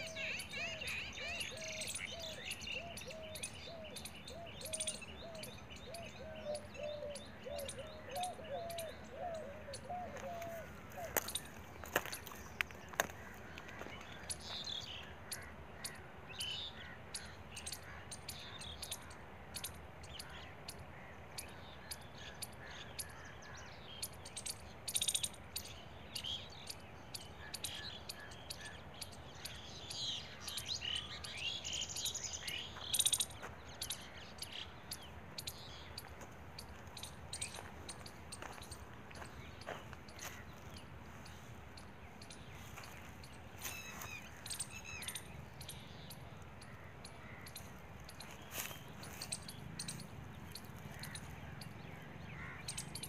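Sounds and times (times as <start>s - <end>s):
birds chirping and calling: 0.0s - 53.0s.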